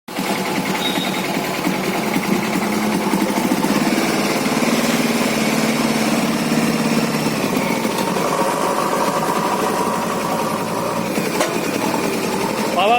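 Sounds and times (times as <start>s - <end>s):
vehicle engine running: 0.1s - 12.9s.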